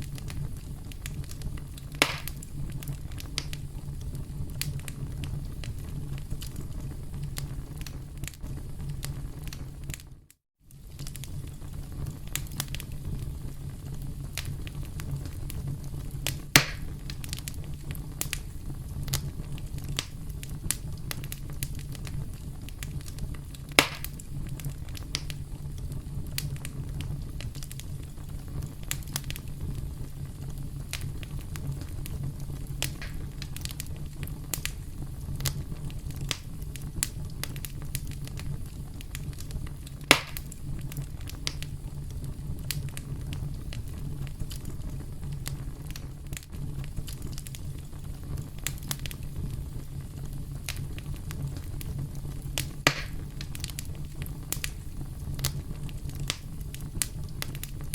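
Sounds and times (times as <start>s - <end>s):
campfire crackling: 0.0s - 57.9s
sharp pops of fire: 0.0s - 57.9s.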